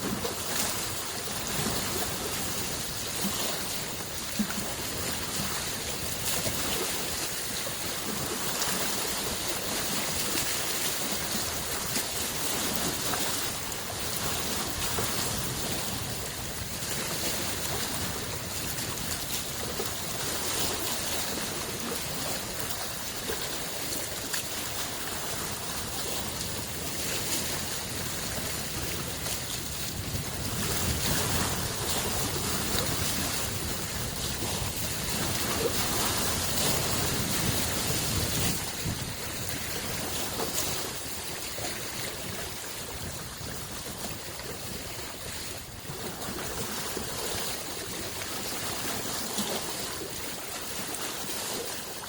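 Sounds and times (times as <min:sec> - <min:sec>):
lake waves washing onto shore: 0:00.0 - 0:52.0.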